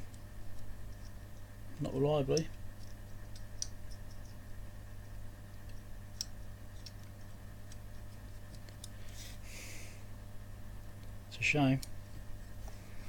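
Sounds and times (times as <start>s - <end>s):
hard drive low hum: 0.0s - 13.0s.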